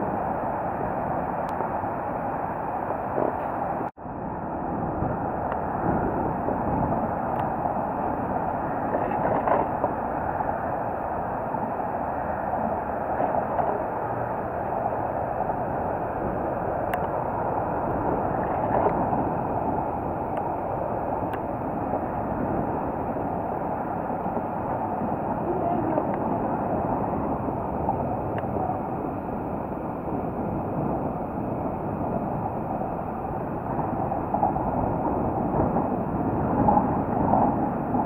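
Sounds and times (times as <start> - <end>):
tyres rolling on wet path: 0.0 - 38.0
wind on microphone: 0.0 - 38.0.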